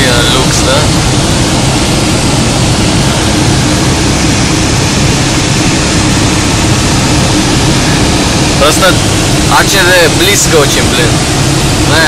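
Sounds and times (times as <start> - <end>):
light aircraft engine drone: 0.0 - 12.0
rushing airflow: 0.0 - 12.0.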